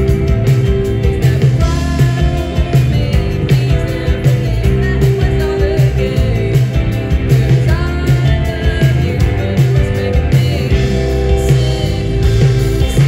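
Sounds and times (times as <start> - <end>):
live rock band: 0.0 - 13.0
woman singing into microphone: 1.0 - 13.0.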